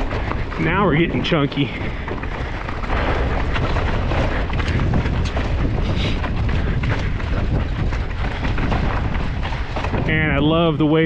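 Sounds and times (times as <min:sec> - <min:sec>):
bike frame rattling knocks: 0:00.0 - 0:11.0
mountain bike rumbling over rocks: 0:00.0 - 0:11.0.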